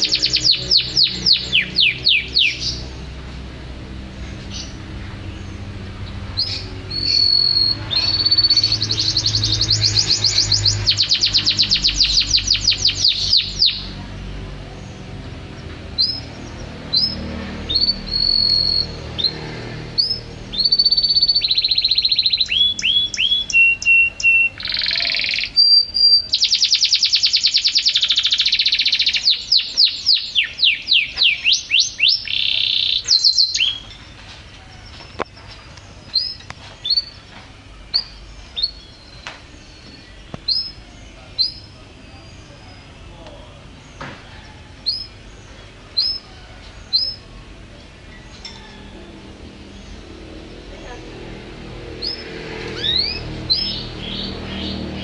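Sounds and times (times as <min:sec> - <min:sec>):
canary singing trills and chirps: 0:00.0 - 0:55.0.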